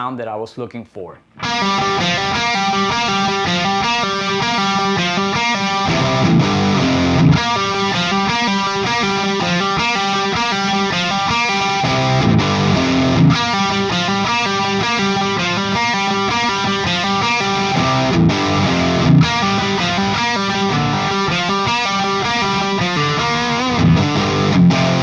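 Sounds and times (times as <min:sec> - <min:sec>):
distorted electric guitar riff: 0:01.3 - 0:25.0
heavy low guitar chords: 0:01.4 - 0:25.0.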